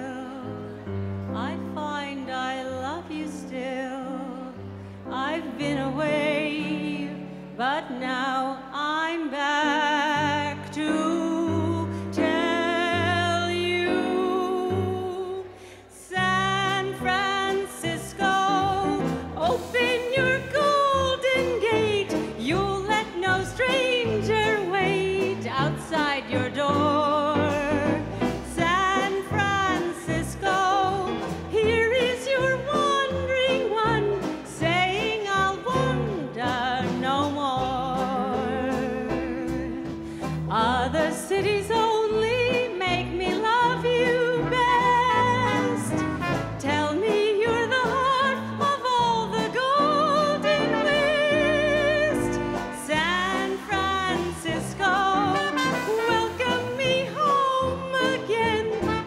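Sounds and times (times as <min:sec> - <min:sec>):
woman singing with vibrato: 0:00.0 - 0:00.6, 0:01.4 - 0:39.9, 0:40.5 - 0:59.0
jazz dance band: 0:05.1 - 0:15.4, 0:16.1 - 0:59.0.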